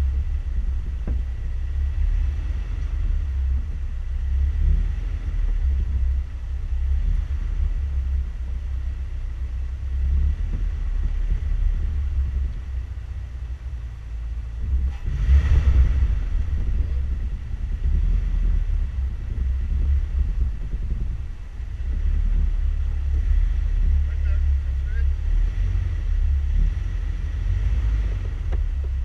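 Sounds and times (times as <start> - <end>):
off-road vehicle engine rumbling: 0.0 - 29.0.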